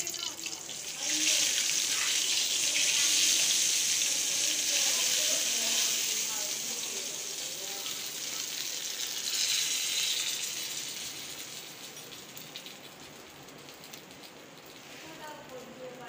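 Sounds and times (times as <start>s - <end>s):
hot oil sizzling: 0.0s - 14.6s.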